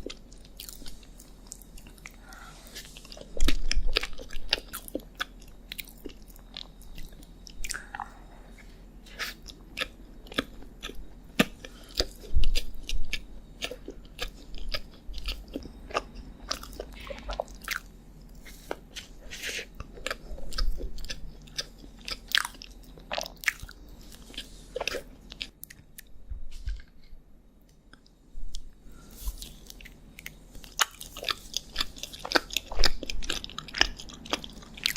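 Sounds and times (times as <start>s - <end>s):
crunchy chewing and biting: 0.0s - 26.9s, 27.9s - 34.9s.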